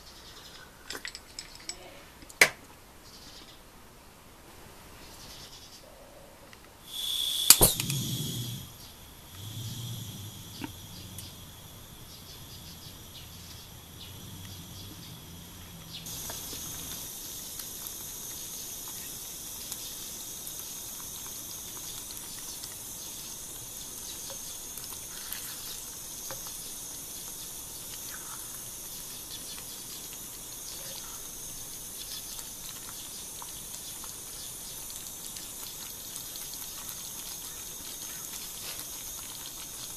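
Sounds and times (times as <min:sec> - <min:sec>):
stew simmering with bubbling: 0:06.8 - 0:39.9.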